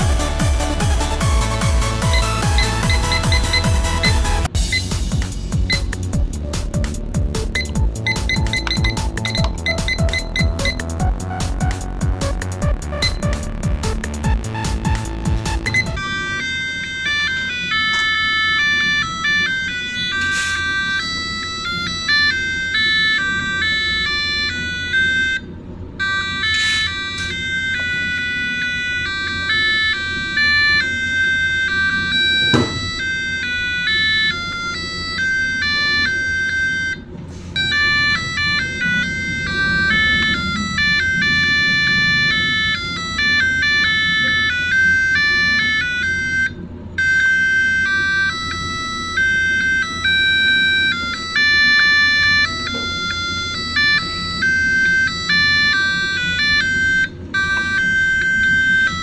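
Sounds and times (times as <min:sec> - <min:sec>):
electronic beeping alarm melody: 0:00.0 - 0:59.0.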